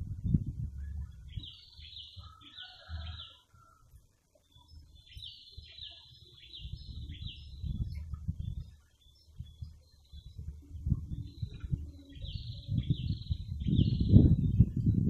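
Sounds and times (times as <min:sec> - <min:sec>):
low rumbling noise: 0:00.0 - 0:02.3, 0:04.7 - 0:15.0.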